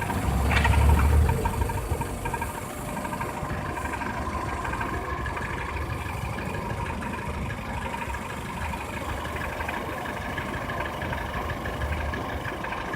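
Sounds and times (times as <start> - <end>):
car engine idling: 0.0 - 12.9
engine whine: 0.0 - 12.9.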